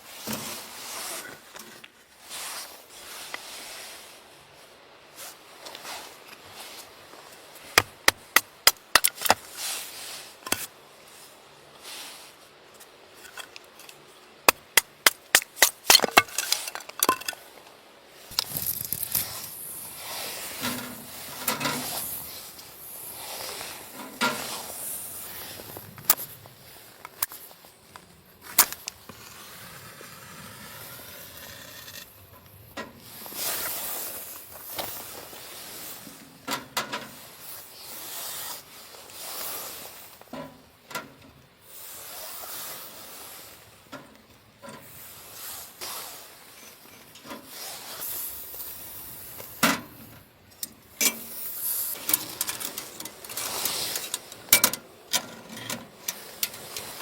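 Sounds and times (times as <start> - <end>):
rustling noise: 0.0 - 57.0.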